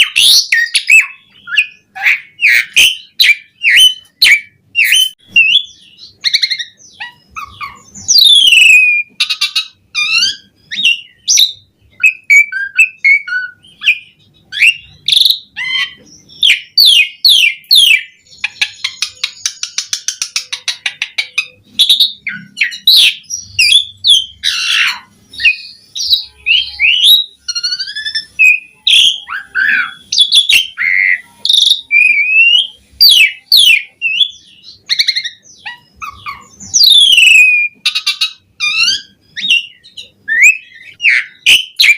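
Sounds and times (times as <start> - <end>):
starling singing whistles: 0.0 - 18.3, 21.3 - 41.9.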